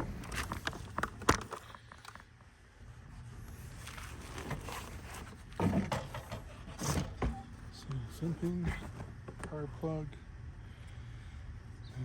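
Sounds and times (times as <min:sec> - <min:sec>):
faint rustling and shuffling: 0:00.0 - 0:10.0.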